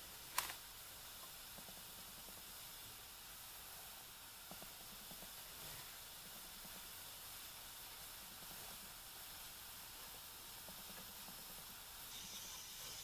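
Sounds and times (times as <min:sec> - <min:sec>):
sauce simmering hiss: 0:00.0 - 0:13.0.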